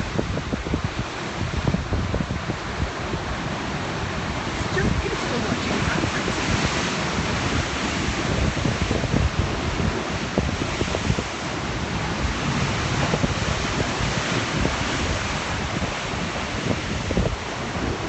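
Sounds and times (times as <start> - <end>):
sea surf washing ashore: 0.0 - 18.0
wind buffeting microphone: 0.0 - 18.0.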